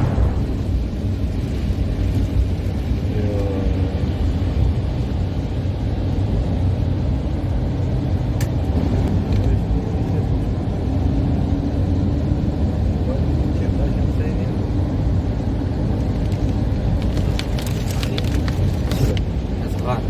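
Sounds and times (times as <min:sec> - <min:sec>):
car driving on wet road: 0:00.0 - 0:20.0.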